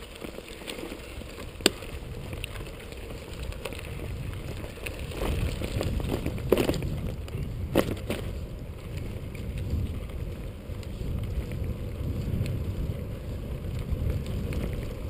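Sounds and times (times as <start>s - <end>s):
bicycle tyre and wind rumble: 0.0s - 15.0s.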